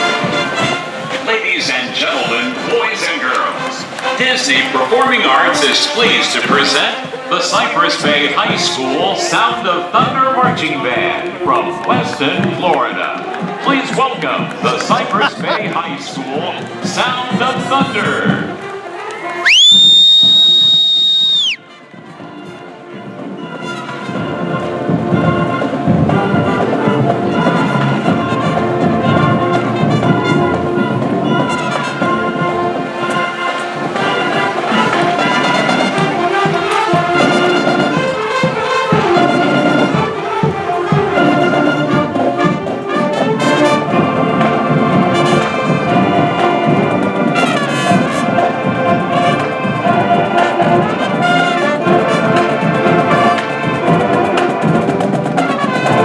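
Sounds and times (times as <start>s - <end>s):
brass section playing melody: 0.0s - 10.6s, 13.1s - 19.4s, 22.4s - 56.0s
marching band playing: 0.0s - 56.0s.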